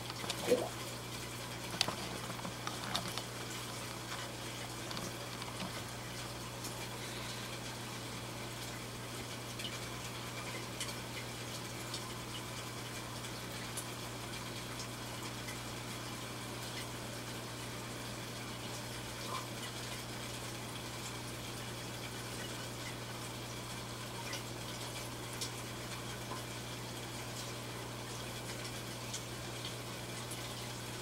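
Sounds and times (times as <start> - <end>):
low pump hum: 0.0 - 31.0.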